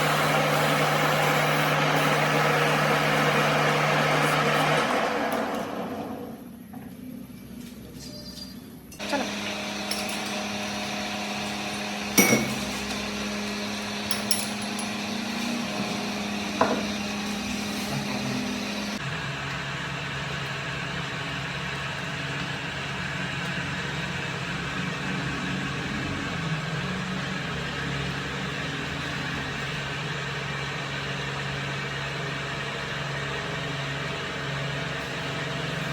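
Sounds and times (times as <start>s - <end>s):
workshop machinery humming: 0.0s - 35.9s.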